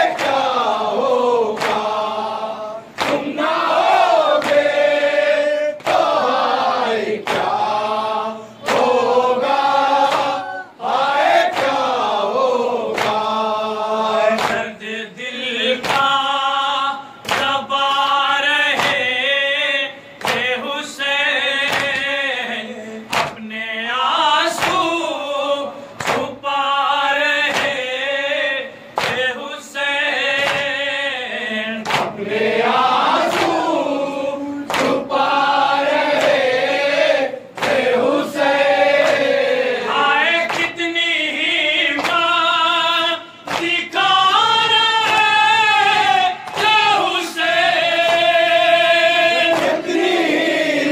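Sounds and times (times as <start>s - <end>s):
men chanting in unison: 0.0s - 50.9s.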